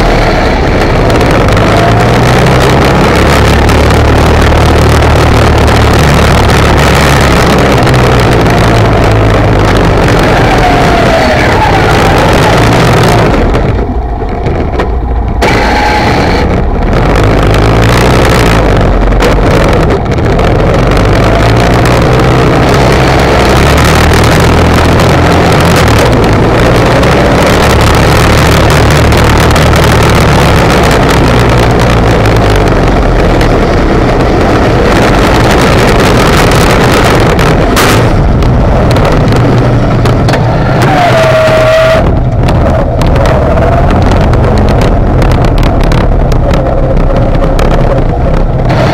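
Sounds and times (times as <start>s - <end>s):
atv engine running: 0.0s - 48.9s
wind noise on microphone: 0.0s - 48.9s.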